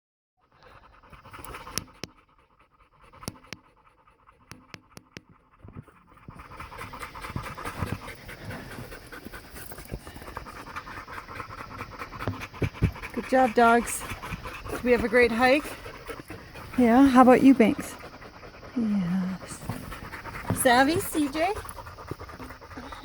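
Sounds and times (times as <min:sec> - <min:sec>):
dogs panting: 0:00.4 - 0:23.0.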